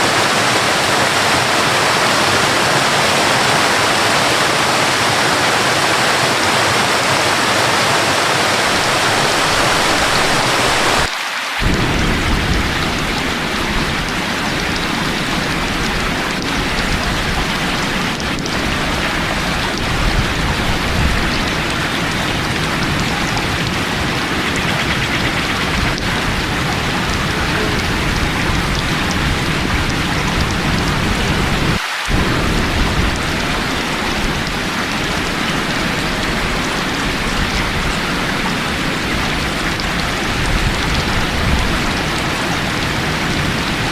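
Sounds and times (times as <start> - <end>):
heavy rain: 0.0 - 43.9
waterfall rushing: 0.0 - 43.9.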